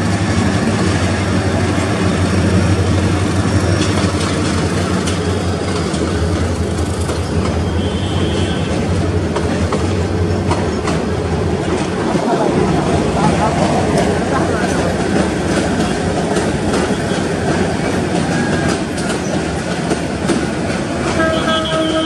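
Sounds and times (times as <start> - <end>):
train coaches rumbling past: 0.0 - 22.0
wheels clicking over rail joints: 0.0 - 22.0.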